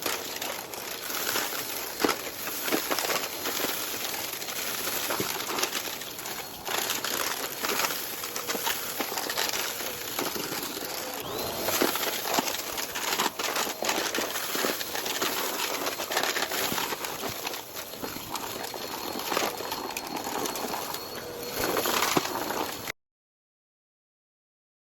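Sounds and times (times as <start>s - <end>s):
high motor whine: 0.0s - 22.9s
vacuum cleaner sucking debris: 0.0s - 22.9s.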